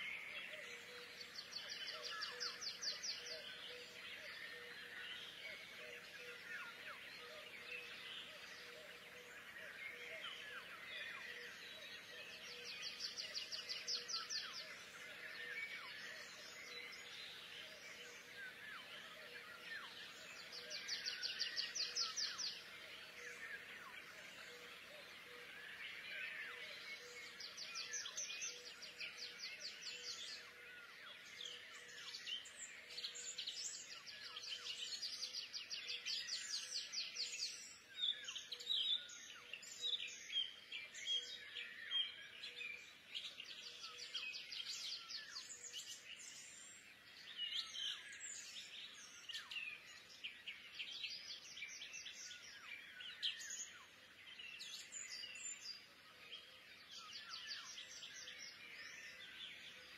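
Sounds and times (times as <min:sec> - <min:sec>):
small birds chirping in trills: 0:00.0 - 0:59.9.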